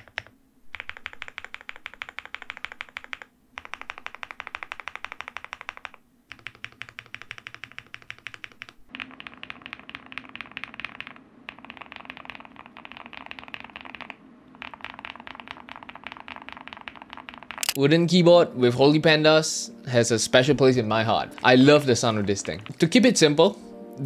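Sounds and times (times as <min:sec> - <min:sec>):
fast typing on mechanical keyboard: 0:00.0 - 0:17.8, 0:21.3 - 0:22.9.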